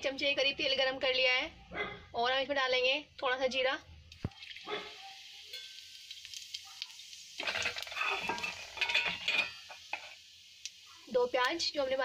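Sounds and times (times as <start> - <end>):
seeds sizzling in hot oil: 2.3 - 12.0.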